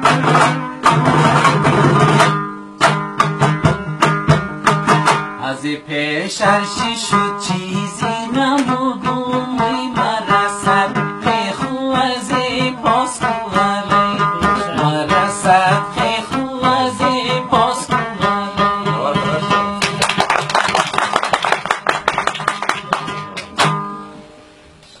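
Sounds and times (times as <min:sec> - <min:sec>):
plucked string instrument melody: 0:00.0 - 0:20.2, 0:22.2 - 0:24.8.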